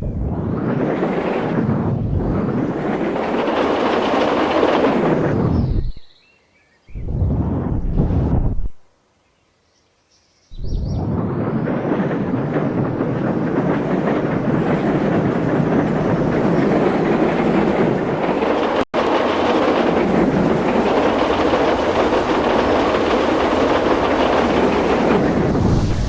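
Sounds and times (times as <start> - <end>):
train rumbling and rattling: 0.0 - 6.1, 10.6 - 26.0.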